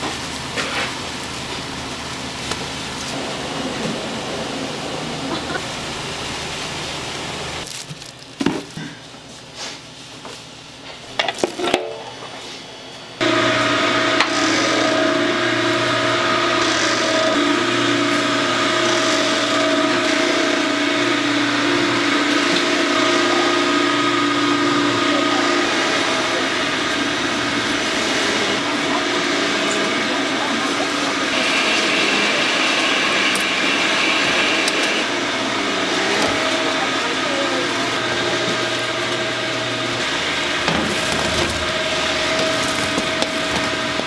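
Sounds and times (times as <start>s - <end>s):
machinery running: 0.0s - 8.2s, 11.4s - 44.0s
machine hum with whine: 0.0s - 44.0s.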